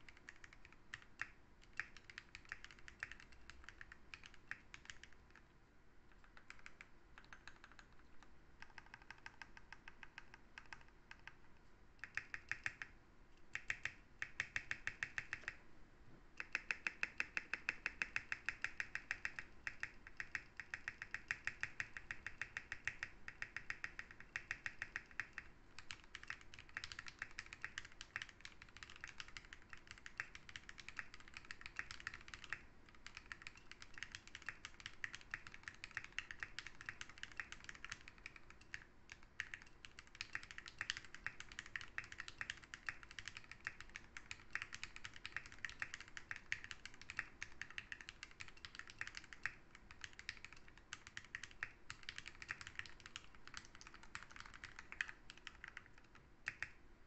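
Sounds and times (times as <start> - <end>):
fast typing on mechanical keyboard: 0.0 - 5.4, 6.1 - 11.4, 12.0 - 12.9, 13.5 - 15.6, 16.4 - 56.8.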